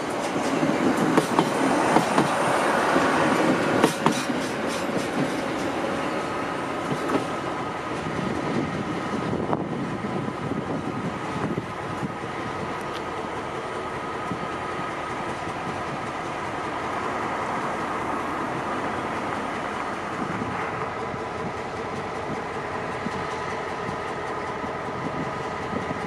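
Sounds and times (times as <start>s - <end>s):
diesel locomotive engines idling: 0.0s - 26.0s.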